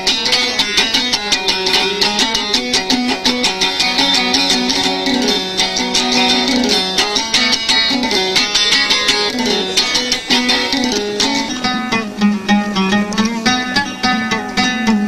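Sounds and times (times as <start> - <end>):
oud fast plucked melody: 0.0 - 15.0.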